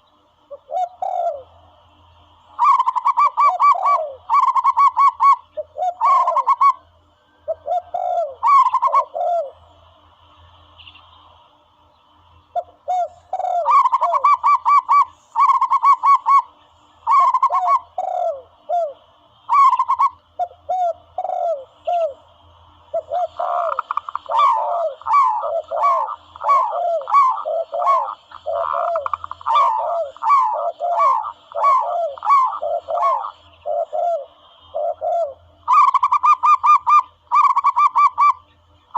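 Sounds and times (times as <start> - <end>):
doves cooing: 0.0 - 1.7, 2.5 - 10.0, 12.6 - 38.6.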